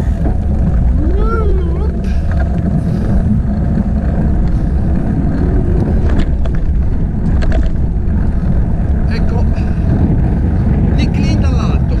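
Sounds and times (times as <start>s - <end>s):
bike rolling on asphalt: 0.0s - 12.0s
wind buffeting microphone: 0.0s - 12.0s.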